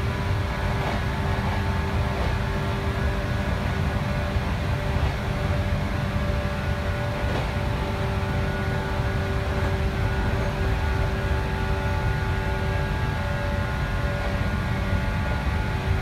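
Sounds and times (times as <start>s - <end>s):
traction motor whine: 0.0s - 16.0s
train wheels rumbling on rail: 0.0s - 16.0s.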